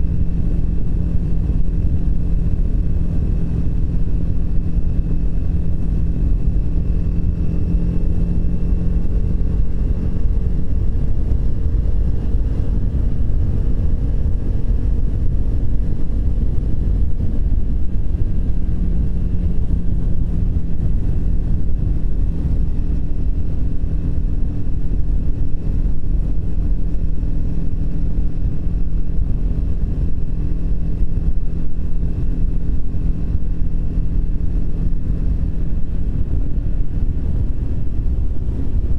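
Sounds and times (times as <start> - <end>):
motorcycle engine cruising: 0.0 - 38.9
road and wind noise: 0.0 - 38.9.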